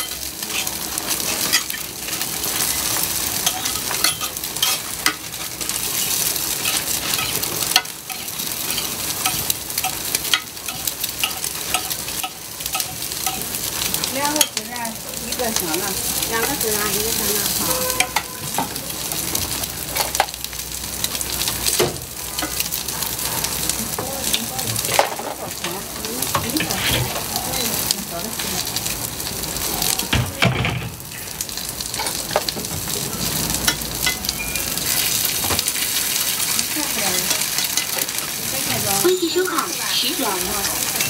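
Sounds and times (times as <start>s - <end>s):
food sizzling in hot pan: 0.0s - 41.0s.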